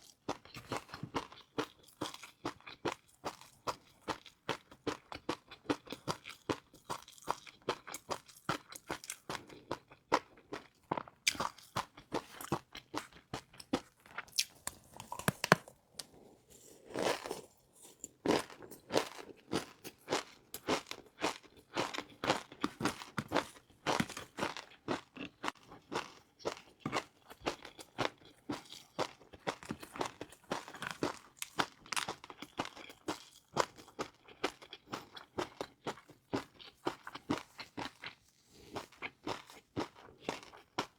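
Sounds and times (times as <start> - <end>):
chewing crispy fried noodles: 0.0 - 40.9.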